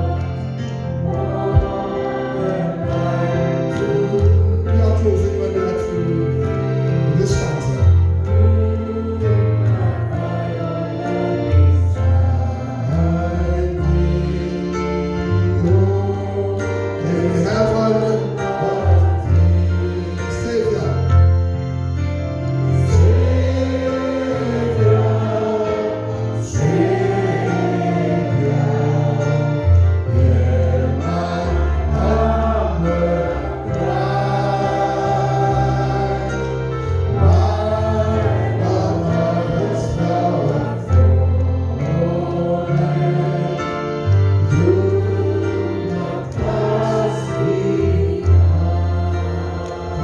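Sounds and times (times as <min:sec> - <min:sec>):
choir singing a hymn: 0:00.0 - 0:50.0
sustained bass notes: 0:00.0 - 0:50.0.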